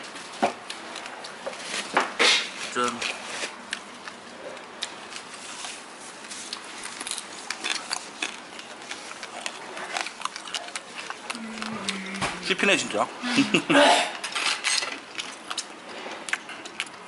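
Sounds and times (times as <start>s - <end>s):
restaurant room noise: 0.0s - 17.0s.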